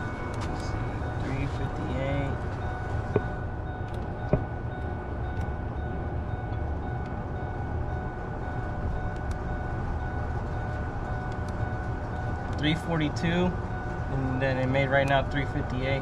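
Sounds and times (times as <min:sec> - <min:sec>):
constant whine: 0:00.0 - 0:16.0
low mechanical rumble: 0:00.0 - 0:16.0.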